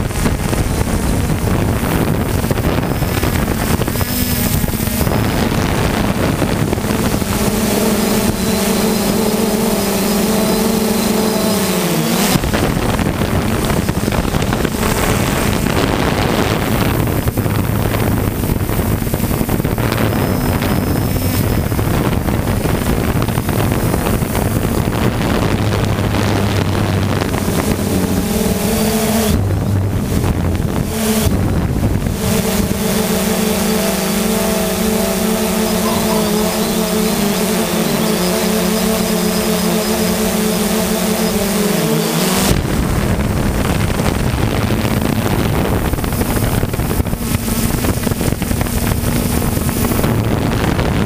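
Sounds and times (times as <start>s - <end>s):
drone propellers whirring: 0.0s - 51.0s
wind on microphone: 0.0s - 51.0s.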